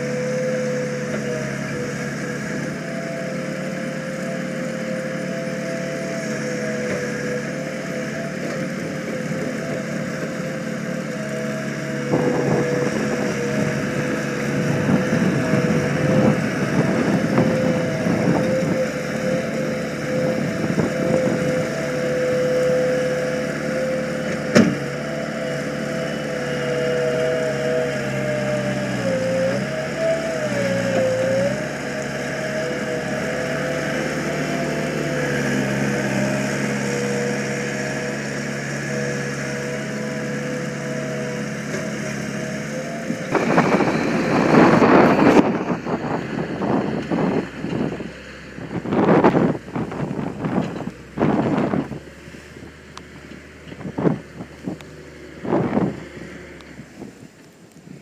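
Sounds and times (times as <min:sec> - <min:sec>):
skid steer engine running: 0:00.0 - 0:58.0.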